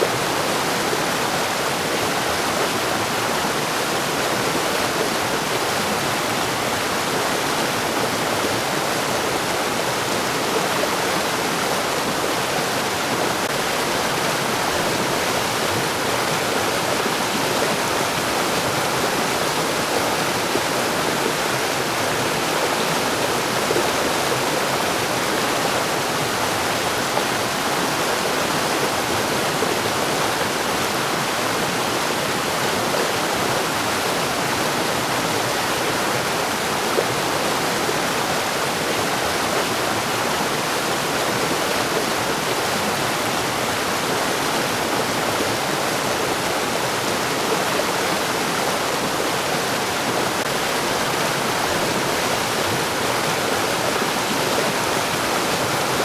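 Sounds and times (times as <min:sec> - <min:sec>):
mountain stream rushing over rocks: 0:00.0 - 0:56.0.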